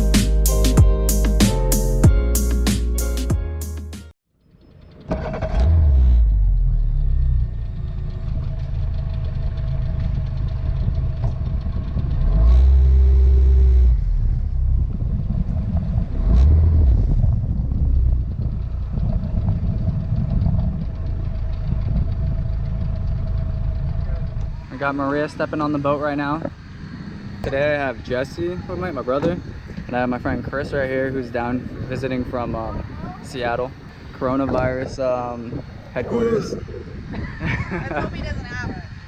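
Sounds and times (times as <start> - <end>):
engine rumbling: 0.0 - 39.0.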